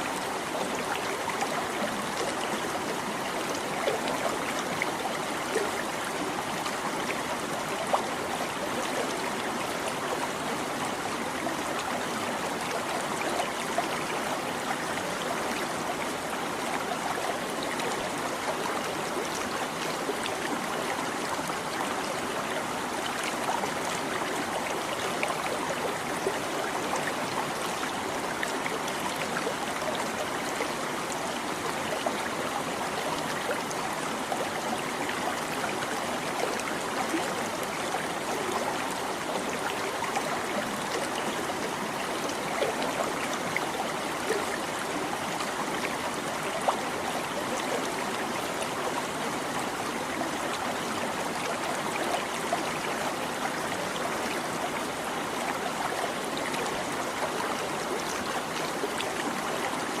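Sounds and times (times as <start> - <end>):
stream babbling over stones: 0.0 - 60.0.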